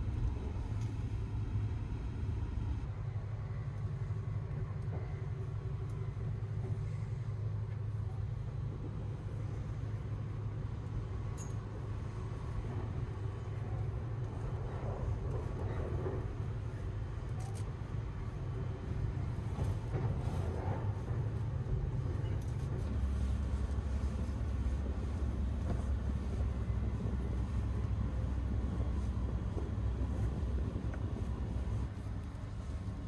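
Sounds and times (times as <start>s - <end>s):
train low rumble inside carriage: 0.0s - 33.0s.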